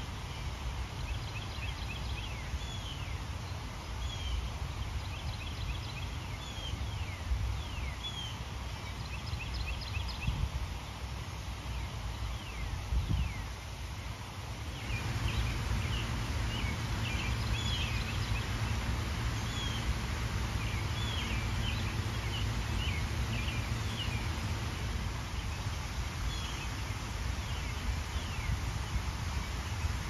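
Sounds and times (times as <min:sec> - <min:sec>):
low rumble and hiss: 0:00.0 - 0:30.0
small birds twittering: 0:00.0 - 0:30.0.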